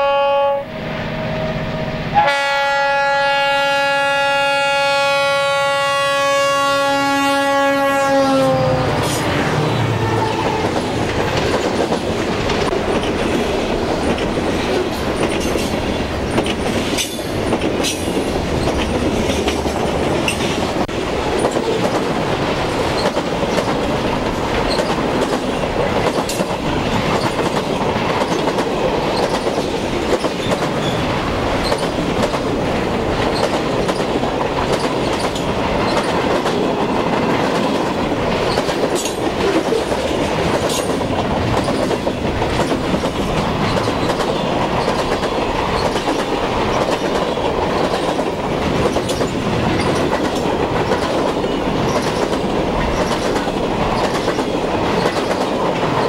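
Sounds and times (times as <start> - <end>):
train wheels rumbling on rail: 0.0 - 56.0
wheels clicking over rail joints: 10.2 - 56.0.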